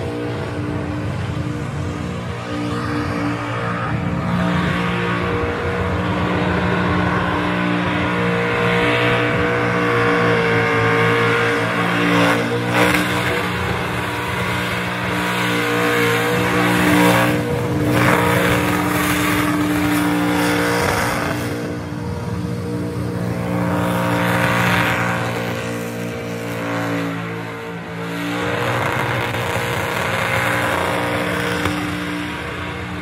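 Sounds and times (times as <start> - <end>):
car engine at high revs: 0.0 - 33.0.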